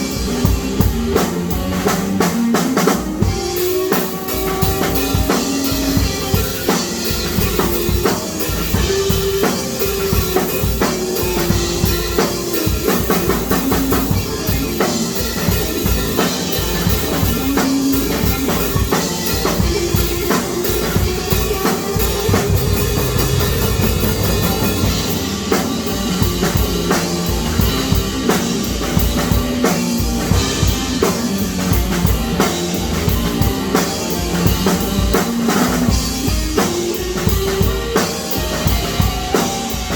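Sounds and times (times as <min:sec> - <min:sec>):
rapid drum kit drumming: 0:00.0 - 0:39.9
stepwise pitched melody line: 0:00.0 - 0:39.9.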